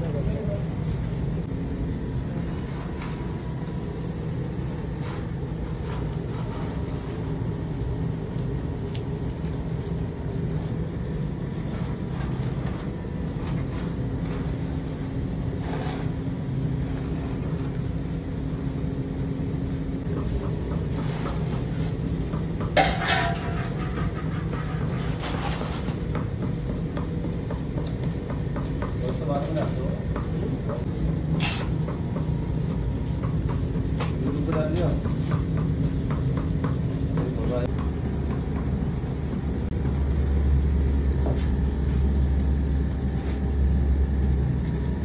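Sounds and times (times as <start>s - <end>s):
low furnace rumble: 0.0s - 45.0s.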